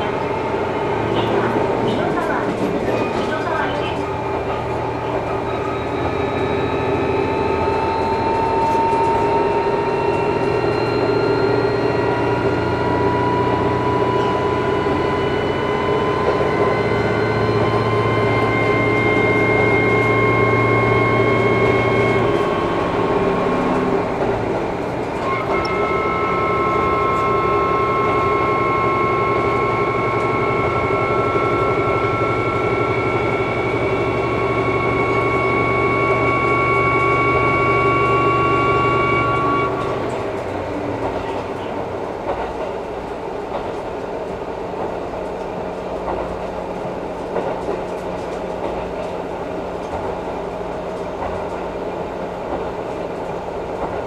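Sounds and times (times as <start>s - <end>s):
railcar engine whine: 0.0s - 54.0s
train running noise: 0.0s - 54.0s.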